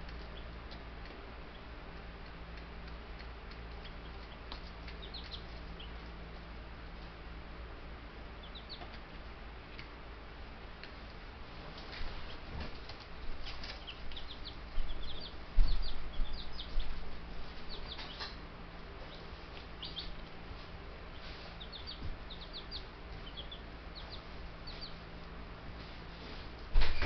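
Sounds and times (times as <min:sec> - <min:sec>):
chicks peeping: 0:00.0 - 0:07.2, 0:08.3 - 0:09.9, 0:11.8 - 0:27.0.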